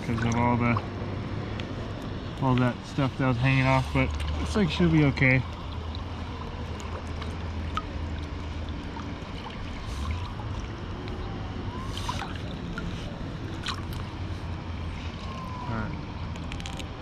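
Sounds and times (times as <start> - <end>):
shallow river flowing: 0.0 - 17.0
small water splashes: 0.0 - 17.0.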